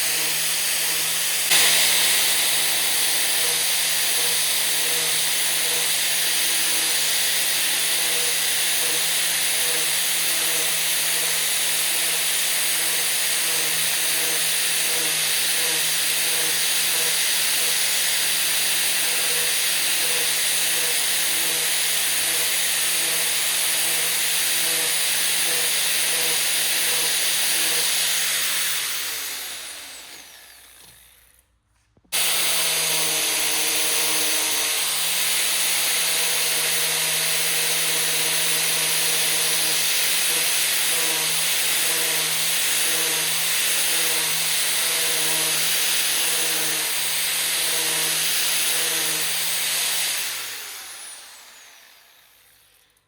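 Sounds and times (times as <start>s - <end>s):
power tool motor whining: 0.0s - 31.5s, 32.1s - 53.0s.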